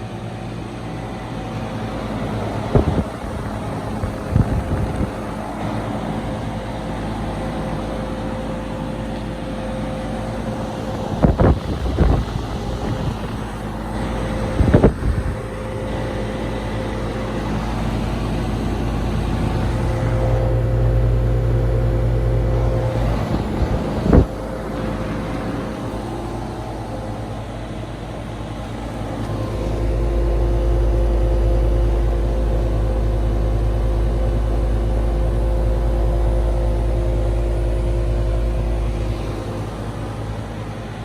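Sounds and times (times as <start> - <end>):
air conditioner humming: 0.0 - 41.0.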